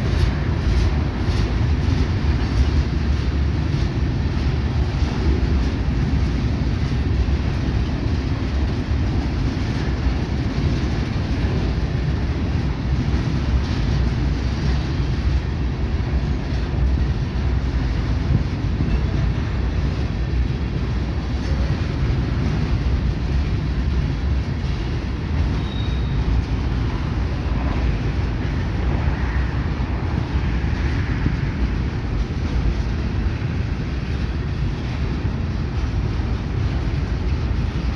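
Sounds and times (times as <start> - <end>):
freight train rumbling on rails: 0.0 - 37.9.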